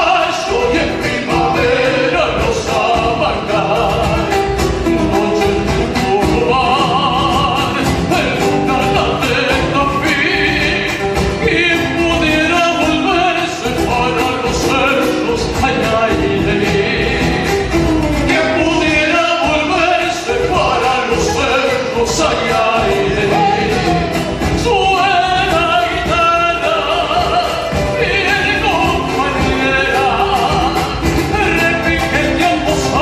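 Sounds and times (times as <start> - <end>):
instrumental accompaniment: 0.0 - 33.0
person singing with vibrato: 0.0 - 33.0.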